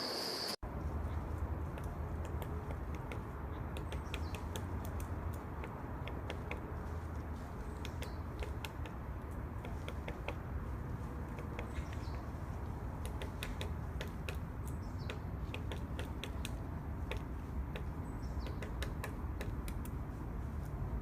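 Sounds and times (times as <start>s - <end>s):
woodpecker tapping on wood: 1.6s - 20.2s.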